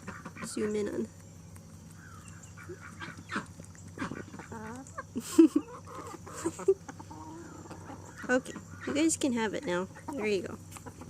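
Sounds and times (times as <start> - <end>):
chickens ducks and turkeys calling: 0.0 - 11.0.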